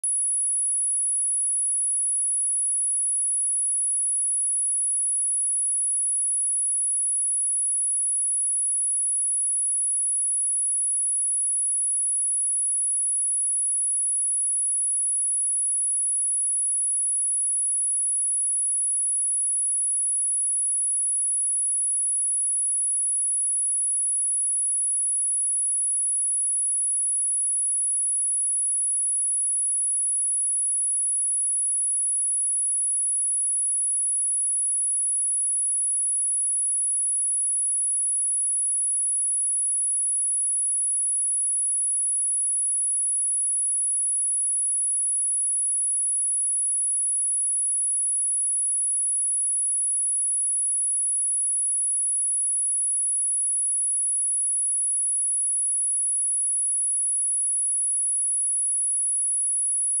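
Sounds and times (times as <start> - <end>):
high-pitched sine test tone: 0.0 - 60.0.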